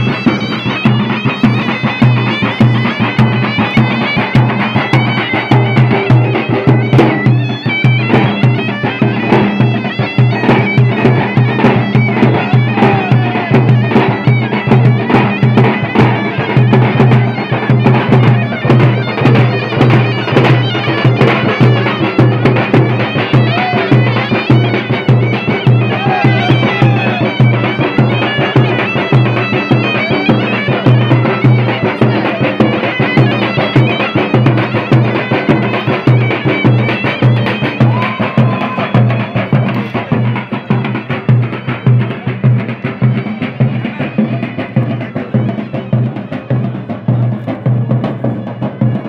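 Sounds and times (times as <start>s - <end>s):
drums beaten in fast rhythm: 0.0s - 49.0s
reedy wind pipe melody: 0.0s - 49.0s.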